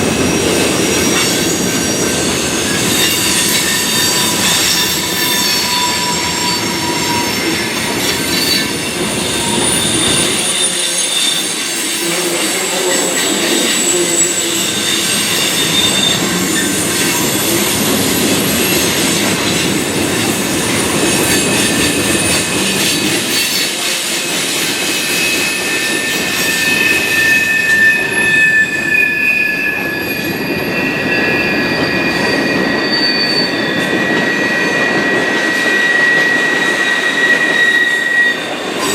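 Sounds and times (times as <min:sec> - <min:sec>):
freight train rumble: 0:00.0 - 0:38.9
train wheels squealing on rails: 0:00.0 - 0:38.9.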